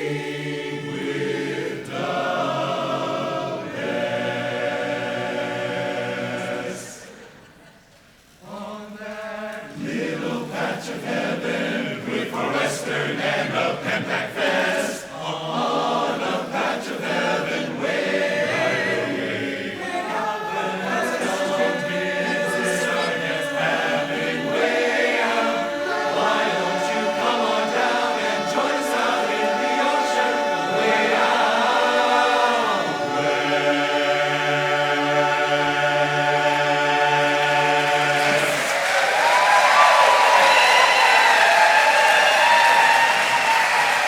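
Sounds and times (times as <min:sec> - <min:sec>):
chorus singing a cappella: 0:00.0 - 0:07.8, 0:08.4 - 0:44.0.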